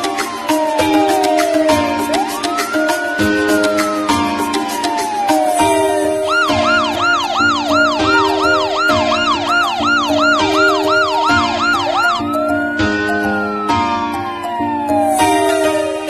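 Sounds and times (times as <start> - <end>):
electronic siren yelping: 0.0 - 16.0
tune of held notes: 0.0 - 16.0.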